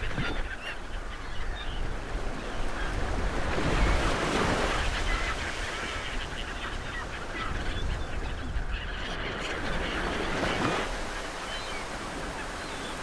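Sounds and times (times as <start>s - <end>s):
surf at the shore: 0.0s - 13.0s.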